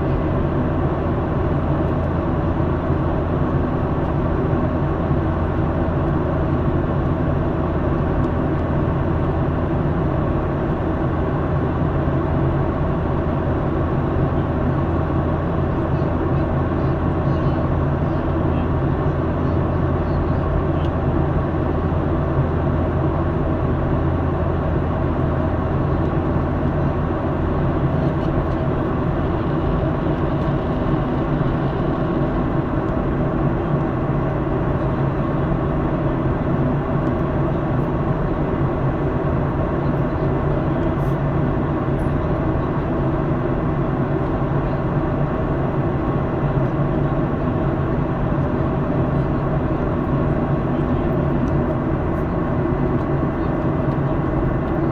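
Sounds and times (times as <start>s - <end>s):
jet cabin engine roar: 0.0s - 54.9s.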